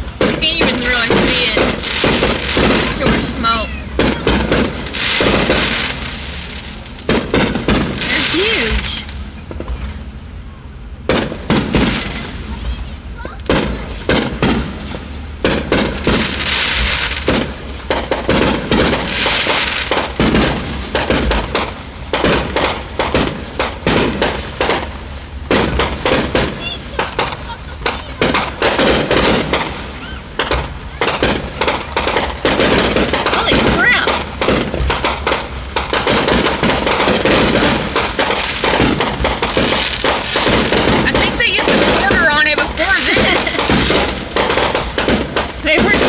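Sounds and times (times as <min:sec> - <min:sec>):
firework shell bursts and bangs: 0:00.0 - 0:10.1, 0:11.0 - 0:46.0
firework hiss: 0:00.0 - 0:10.4, 0:11.1 - 0:46.0.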